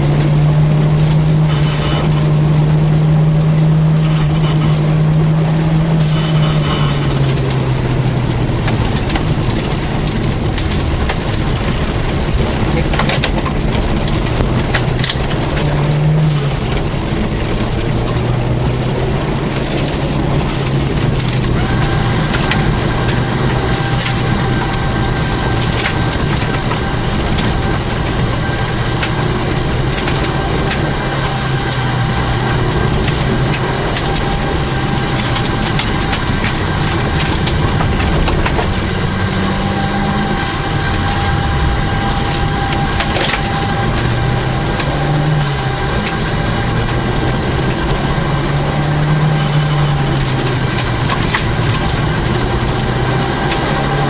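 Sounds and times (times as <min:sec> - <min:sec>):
rally car engine revving: 0:00.0 - 0:54.0
road and gravel noise: 0:00.0 - 0:54.0.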